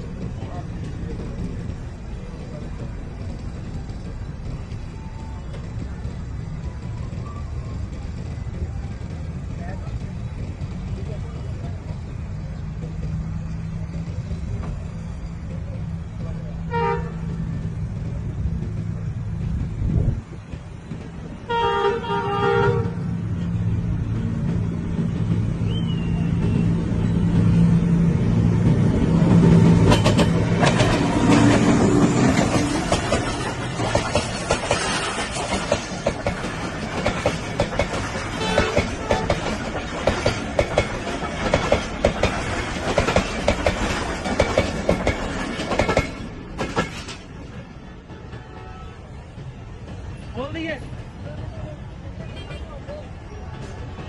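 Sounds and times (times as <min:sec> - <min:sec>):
engine rumble: 0:00.0 - 0:48.0
train wheels clattering over rails: 0:00.0 - 0:54.0.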